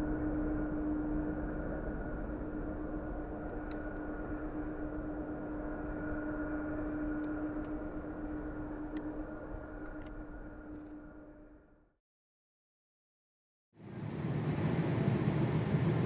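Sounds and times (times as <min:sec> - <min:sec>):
jet airliner engines rumbling: 0:00.0 - 0:11.9, 0:13.8 - 0:16.0.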